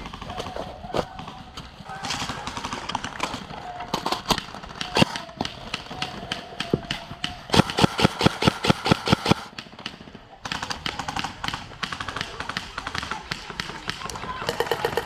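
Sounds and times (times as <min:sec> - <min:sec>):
airsoft gun rapid shots: 0:00.0 - 0:15.0.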